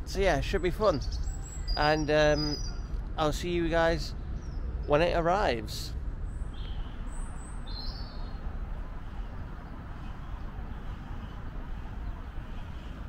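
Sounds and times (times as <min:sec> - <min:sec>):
low outdoor rumble: 0:00.0 - 0:13.0
bird chirp: 0:00.2 - 0:05.6, 0:06.3 - 0:13.0.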